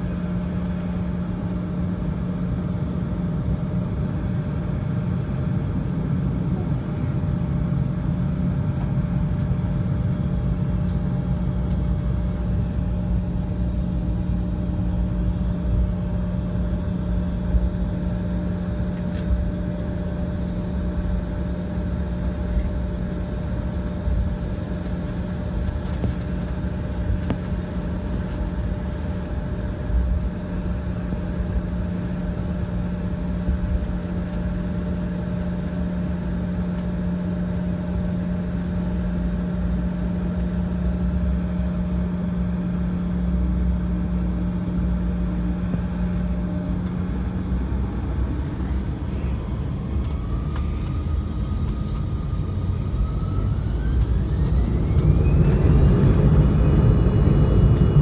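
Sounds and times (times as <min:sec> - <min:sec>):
jet engine whine rising: 0:00.0 - 0:58.0
jet engines humming in cabin: 0:00.0 - 0:58.0.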